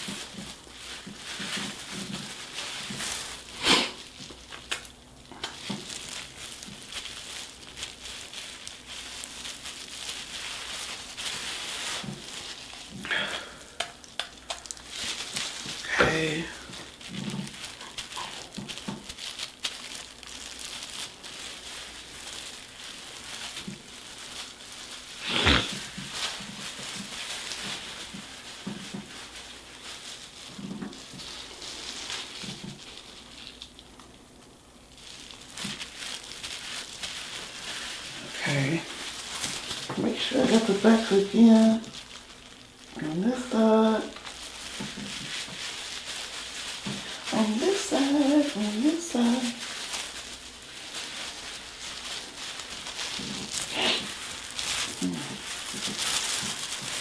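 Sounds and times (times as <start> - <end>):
wet squishing of hair massaging: 0.0 - 57.0.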